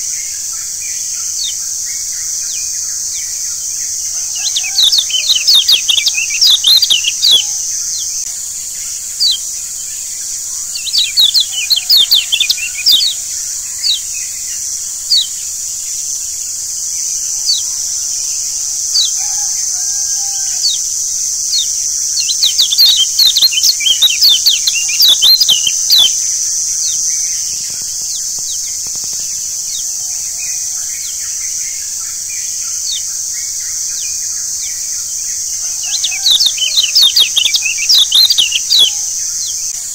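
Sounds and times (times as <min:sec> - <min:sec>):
bird twittering chirps: 0:00.0 - 0:39.9
high-pitched hiss: 0:00.0 - 0:39.9.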